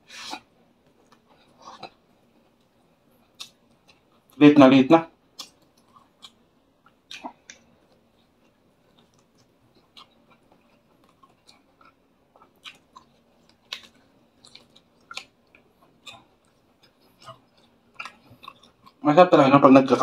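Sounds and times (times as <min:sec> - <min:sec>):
chewing fried food: 0:00.2 - 0:04.4, 0:05.1 - 0:19.0.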